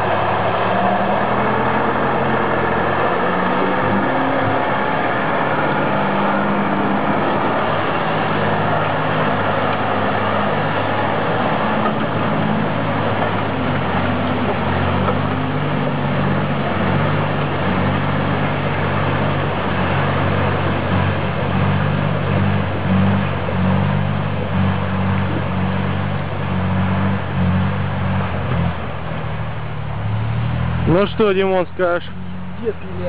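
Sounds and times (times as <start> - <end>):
rushing noise: 0.0 - 32.2
truck engine droning under load: 0.0 - 33.0.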